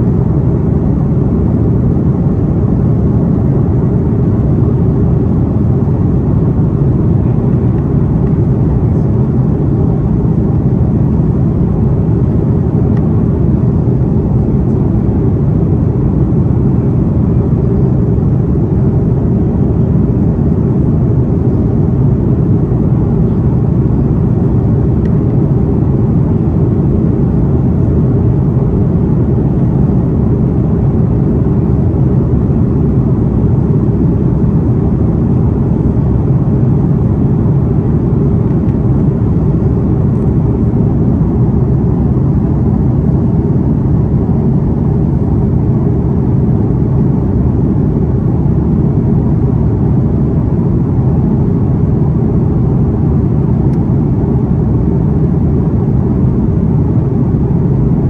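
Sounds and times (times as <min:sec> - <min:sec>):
jet engines rumbling in cabin: 0:00.0 - 0:58.0.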